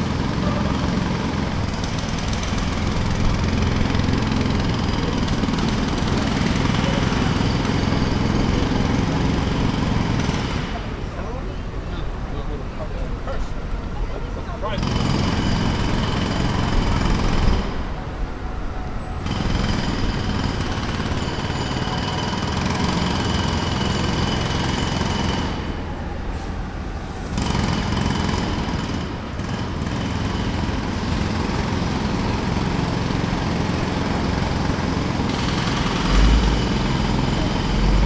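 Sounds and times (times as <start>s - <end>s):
jackhammer hammering: 0.0s - 11.4s, 14.8s - 18.0s, 19.2s - 25.9s, 27.3s - 38.0s.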